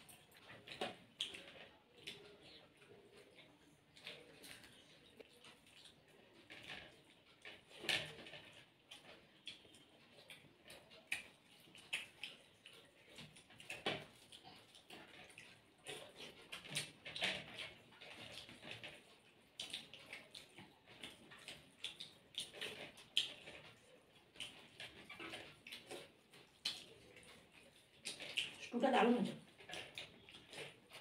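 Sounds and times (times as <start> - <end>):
wet chewing and lip-smacking: 0.0 - 7.8, 8.5 - 31.0.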